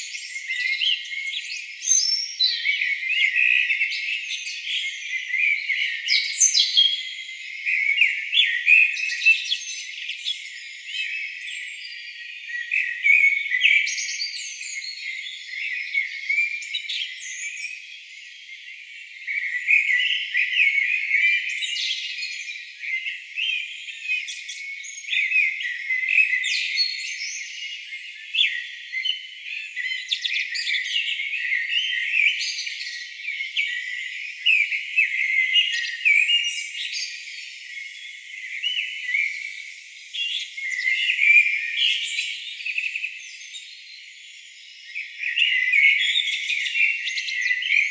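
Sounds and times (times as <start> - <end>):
songbirds chirping chorus: 0.0 - 47.9.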